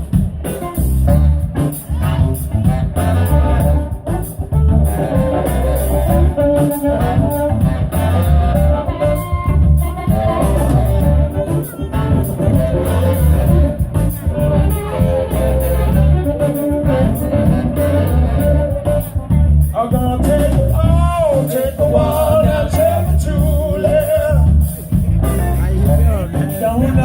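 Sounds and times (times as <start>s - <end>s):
live blues band playing: 0.0s - 27.0s.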